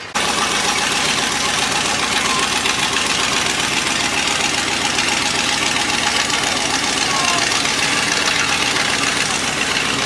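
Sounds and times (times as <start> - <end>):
loud pulsing vehicle engine: 0.0 - 10.0.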